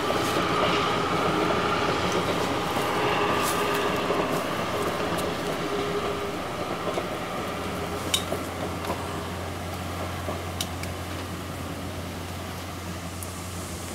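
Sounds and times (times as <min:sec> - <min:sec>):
low steady hum: 0:00.0 - 0:12.6
distant steam train: 0:00.0 - 0:13.9.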